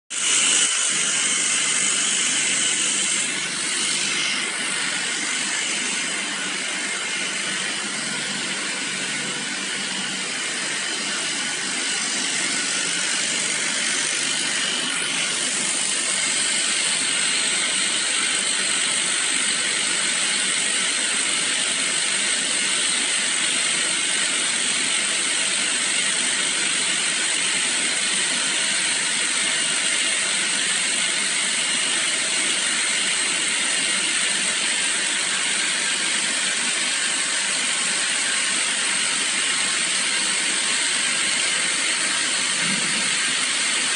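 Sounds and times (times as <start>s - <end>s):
electric pump running: 0.1s - 43.9s.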